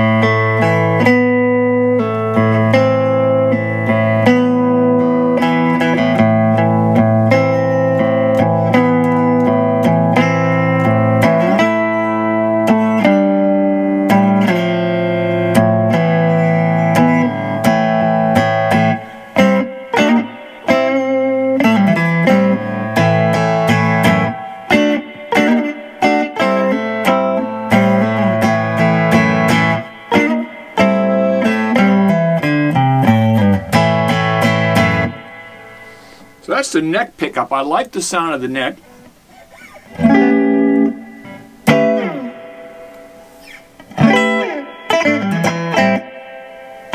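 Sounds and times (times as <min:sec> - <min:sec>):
amplified electric guitar: 0:00.0 - 0:46.9.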